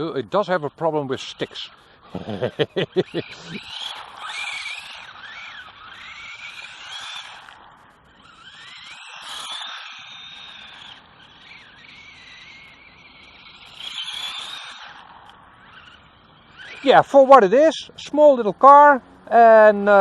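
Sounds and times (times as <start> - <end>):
rc car motor whining: 0.0 - 20.0.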